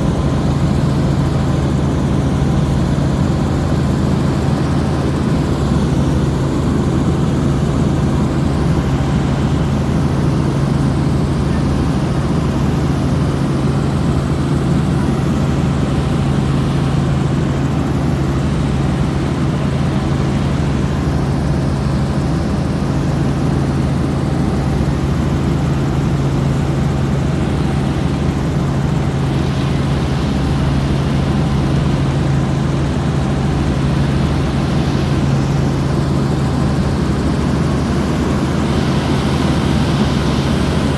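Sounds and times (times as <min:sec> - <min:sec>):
helicopter engine and rotors: 0:00.0 - 0:40.9.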